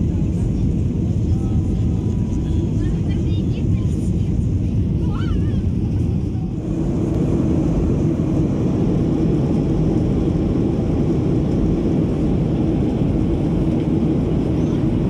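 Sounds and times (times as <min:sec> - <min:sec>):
jet airliner cabin roar: 0:00.0 - 0:15.0.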